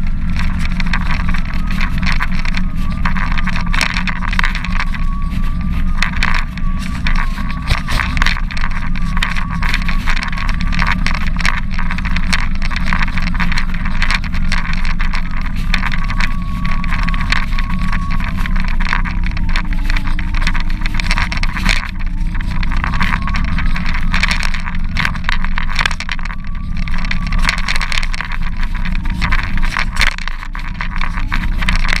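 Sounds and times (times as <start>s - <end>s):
faint wavering whine: 0.0s - 32.0s
small wheels rolling over paving: 0.0s - 32.0s.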